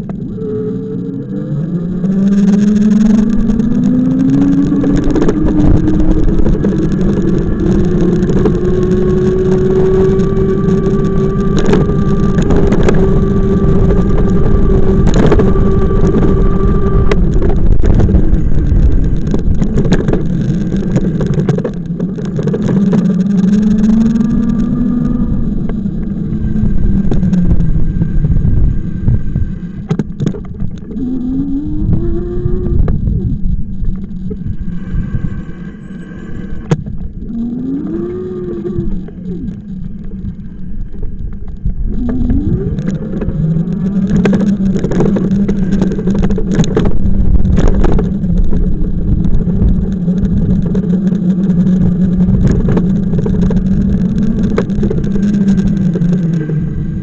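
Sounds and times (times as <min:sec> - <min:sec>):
vehicle engine accelerating: 0:00.0 - 0:57.0
wind and road noise: 0:00.0 - 0:57.0.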